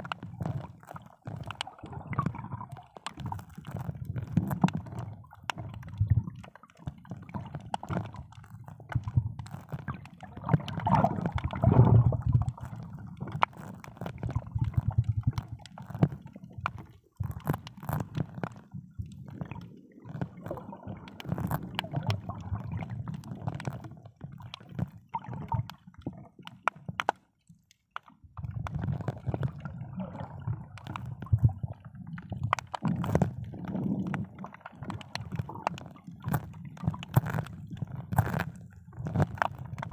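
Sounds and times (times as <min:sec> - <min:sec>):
muffled underwater water gurgling: 0:00.0 - 0:27.1, 0:28.2 - 0:39.9.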